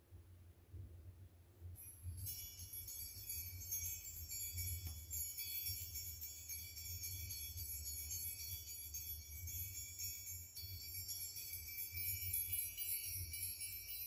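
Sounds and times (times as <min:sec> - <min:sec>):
small bells jingling: 0:01.8 - 0:14.0.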